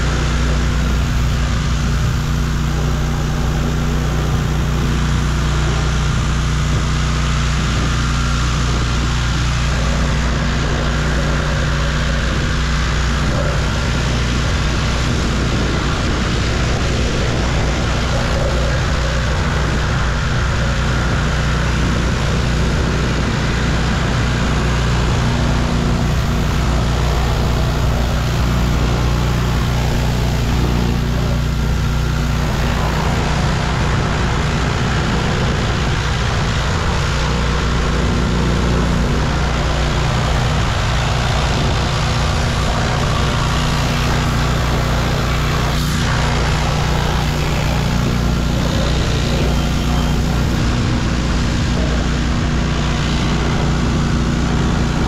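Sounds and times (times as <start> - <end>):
high-pressure water spray hiss: 0.0 - 55.0
pressure washer engine running: 0.0 - 55.0.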